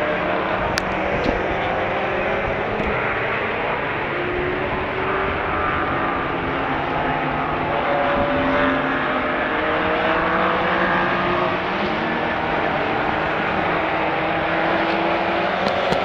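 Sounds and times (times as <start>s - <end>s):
racing car engine: 0.0s - 16.0s.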